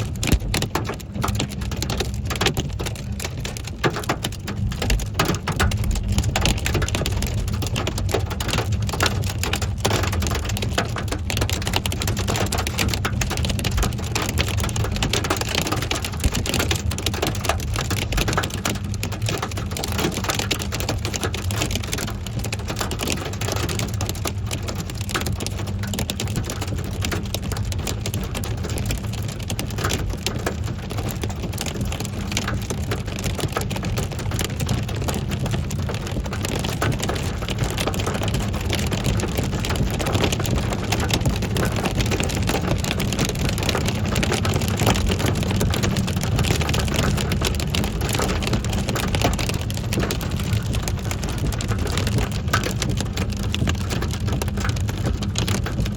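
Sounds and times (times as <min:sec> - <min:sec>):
hail and rain on hard surfaces: 0:00.0 - 0:55.9.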